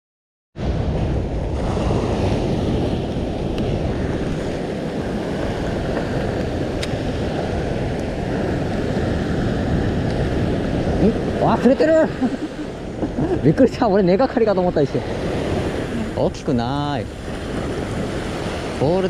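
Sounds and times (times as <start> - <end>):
sea waves washing: 0.6 - 19.0
wind on microphone: 0.6 - 19.0.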